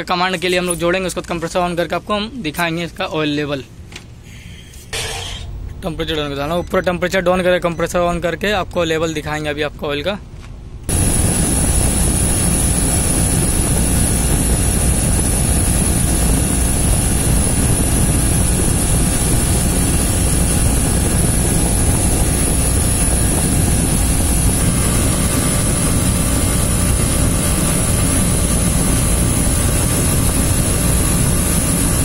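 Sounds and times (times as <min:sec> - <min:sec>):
compressor and fan rushing noise: 0:00.0 - 0:32.0.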